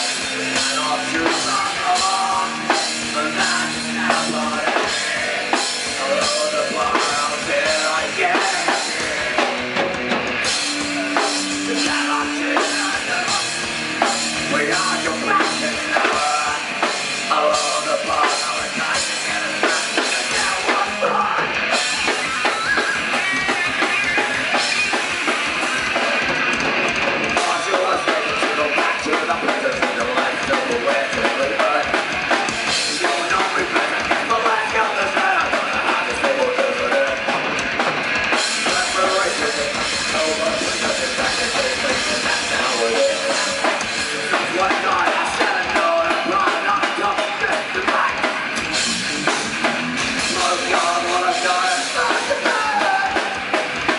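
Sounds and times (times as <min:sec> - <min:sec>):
distorted electric guitar: 0:00.0 - 0:53.9
drum kit: 0:00.0 - 0:53.9.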